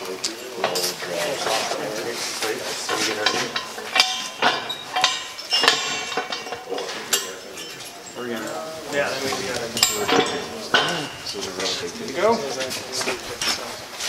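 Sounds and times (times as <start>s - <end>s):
metal clinks and knocks: 0.0s - 14.0s.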